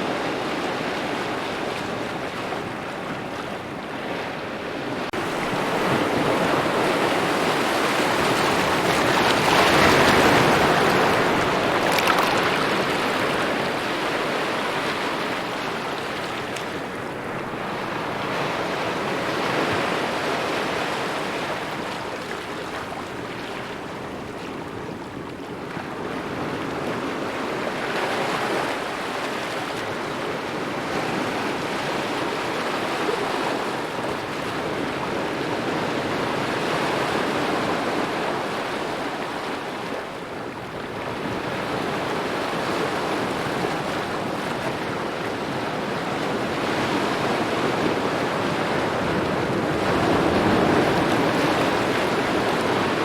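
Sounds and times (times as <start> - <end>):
small waves lapping at shore: 0.0 - 53.0.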